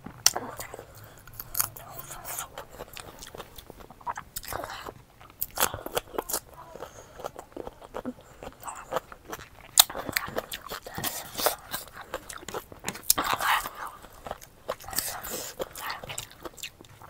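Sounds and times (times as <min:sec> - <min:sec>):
crunchy bites: 0:00.0 - 0:17.0
wet chewing and smacking: 0:00.0 - 0:17.0.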